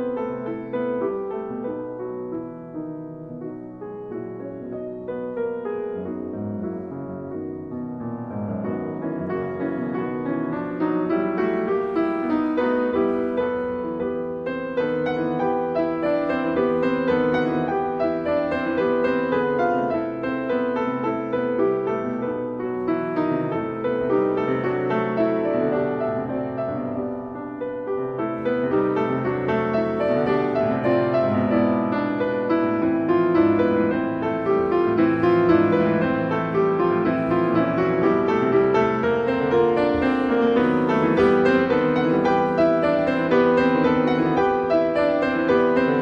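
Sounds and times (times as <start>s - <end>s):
gentle piano music: 0.0s - 46.0s.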